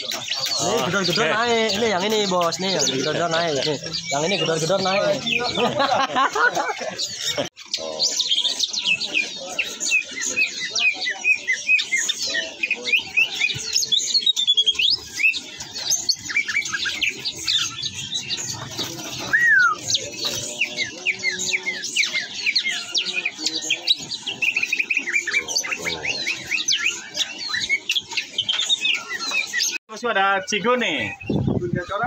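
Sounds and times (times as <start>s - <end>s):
leafbirds singing: 0.0s - 32.0s
songbirds chirping: 0.0s - 32.0s.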